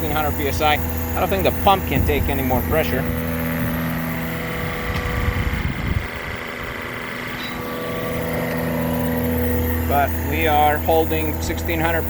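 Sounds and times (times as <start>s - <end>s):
high-pressure pump humming: 0.0s - 12.0s.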